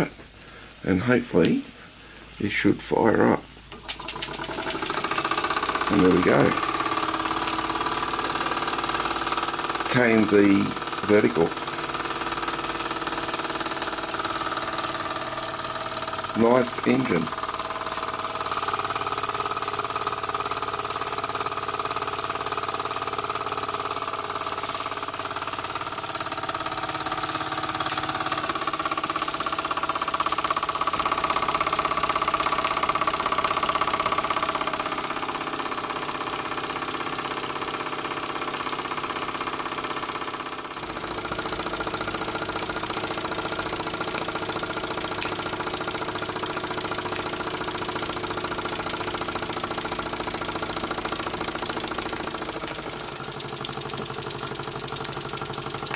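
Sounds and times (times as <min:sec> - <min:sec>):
model steam engine running: 0:03.9 - 0:55.9.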